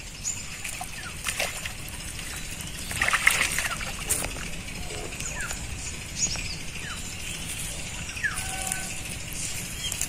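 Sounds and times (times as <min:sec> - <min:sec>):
birds chirping: 0:00.0 - 0:10.0
steady outdoor hiss: 0:00.0 - 0:10.0.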